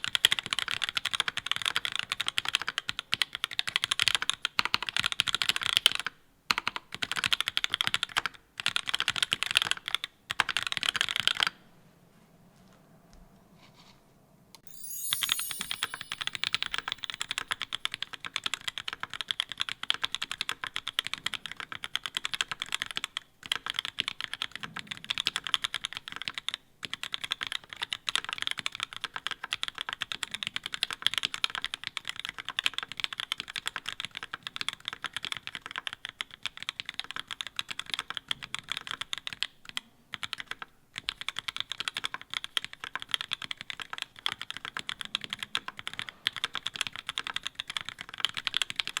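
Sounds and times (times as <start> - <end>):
mechanical keyboard typing: 0.0 - 11.6, 14.6 - 49.0.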